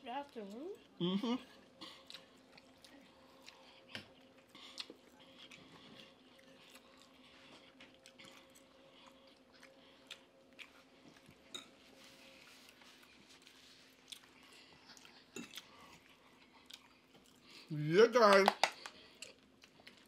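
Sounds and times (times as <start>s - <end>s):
steady low hum: 0.0s - 18.2s
people chewing and eating: 0.0s - 20.0s.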